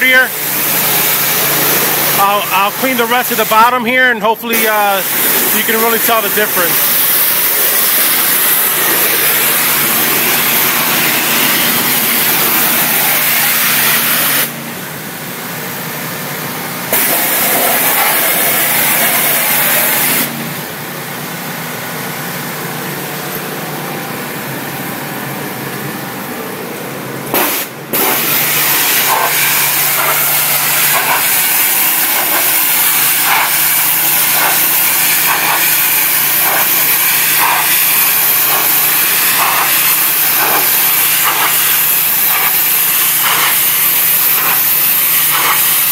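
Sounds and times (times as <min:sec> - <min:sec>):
motor drone: 0:00.0 - 0:03.0, 0:05.0 - 0:45.9
pressure washer jet hissing: 0:00.0 - 0:20.7, 0:27.3 - 0:45.9.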